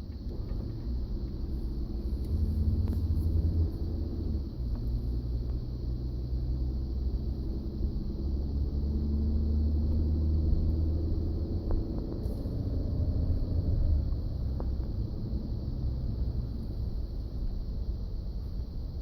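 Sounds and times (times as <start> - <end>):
truck engine rumble: 0.0 - 19.0.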